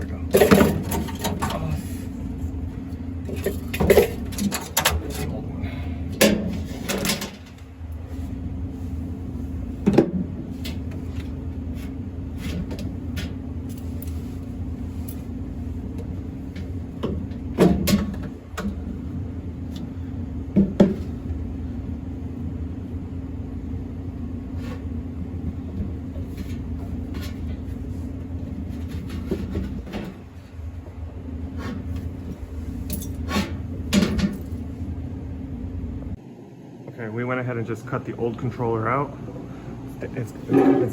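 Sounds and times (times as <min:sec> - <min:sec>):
low machinery hum: 0:00.0 - 0:40.9.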